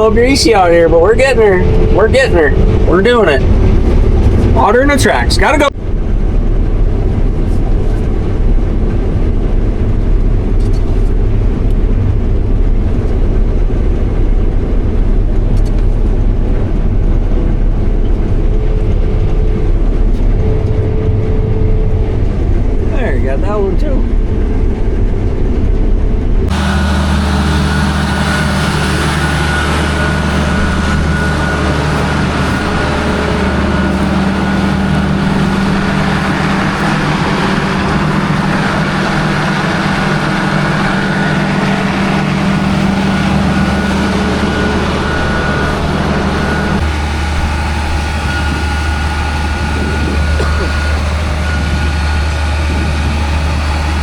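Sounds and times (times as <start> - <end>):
combine harvester drone: 0.0 - 54.0
high machinery whine: 0.0 - 54.0.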